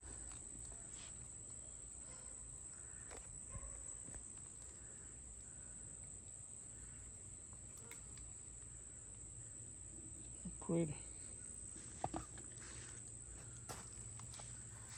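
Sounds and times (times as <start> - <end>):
insects trilling: 0.0 - 14.9.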